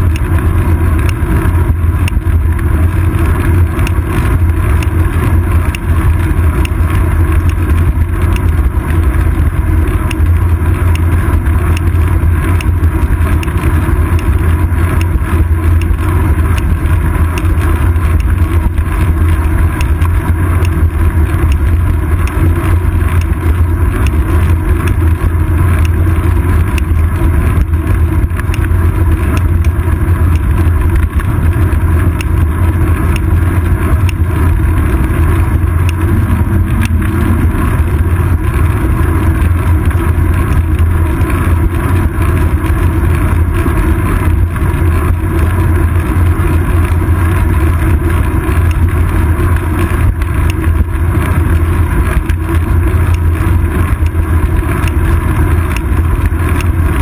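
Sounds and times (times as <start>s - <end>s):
bicycle wind and road rumble: 0.0s - 57.0s
small ticks: 0.0s - 57.0s.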